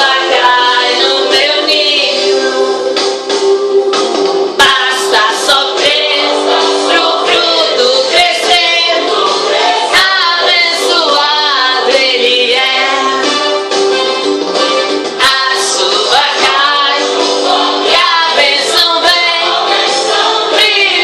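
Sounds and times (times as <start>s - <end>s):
people singing: 0.0s - 13.5s, 15.2s - 21.0s
instrumental backing: 0.0s - 21.0s.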